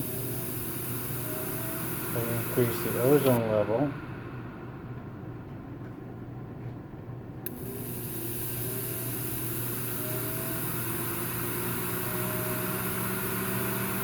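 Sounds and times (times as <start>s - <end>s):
fan air rush: 0.0s - 14.0s.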